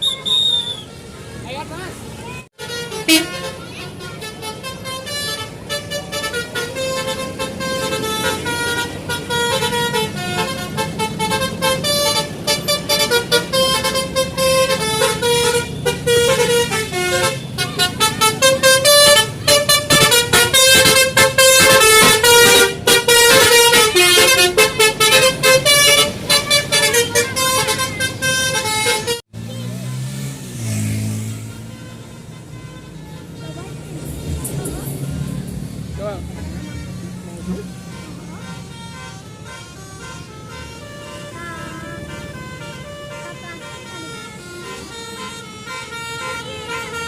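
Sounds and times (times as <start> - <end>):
musical bus horn tooting melody: 2.4 - 47.0.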